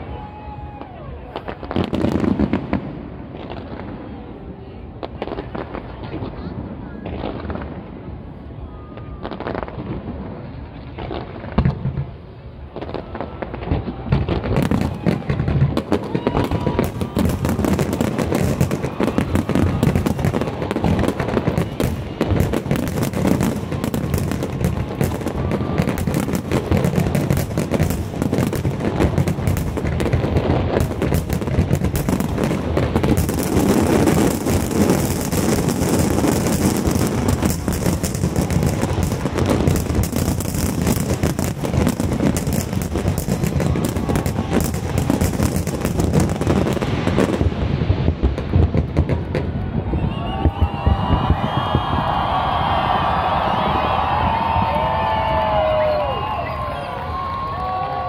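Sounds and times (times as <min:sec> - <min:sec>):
fireworks exploding: 0:00.0 - 0:58.0.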